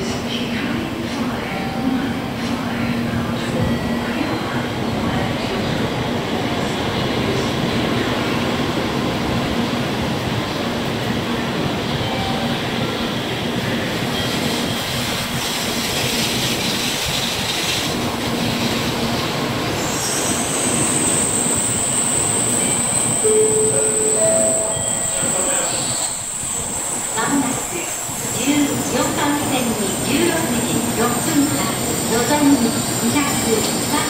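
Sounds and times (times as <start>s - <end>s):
train wheel and air noise: 0.0s - 34.0s.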